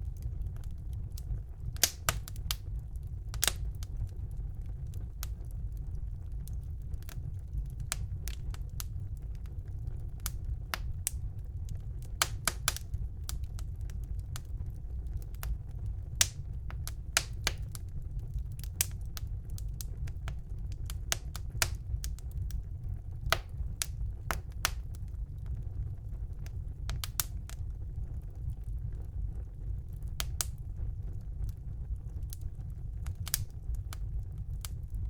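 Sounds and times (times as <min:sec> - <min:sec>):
fire flames rumbling: 0:00.0 - 0:35.0
logs crackling and popping: 0:00.0 - 0:35.0.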